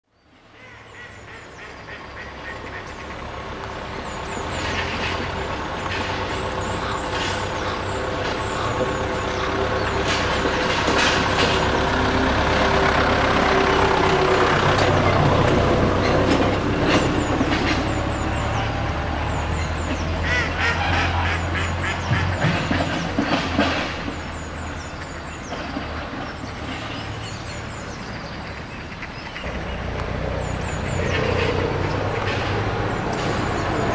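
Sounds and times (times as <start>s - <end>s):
vehicle rumbling: 0.0s - 33.9s.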